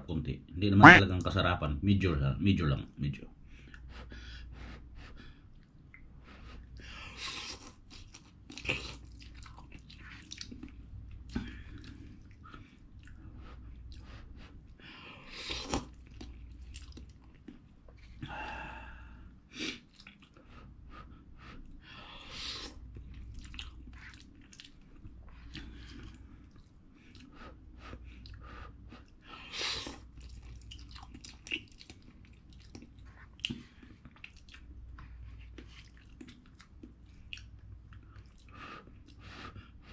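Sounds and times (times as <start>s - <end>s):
person chewing noodles: 3.6s - 39.9s.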